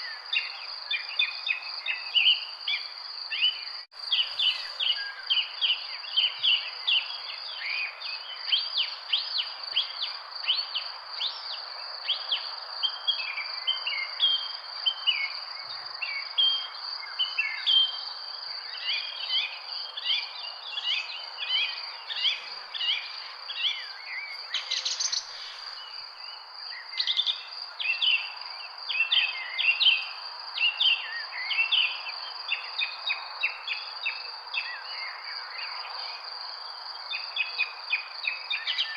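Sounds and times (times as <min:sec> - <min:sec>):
crickets trilling: 0:00.0 - 0:38.9
small birds chirping: 0:00.0 - 0:38.9.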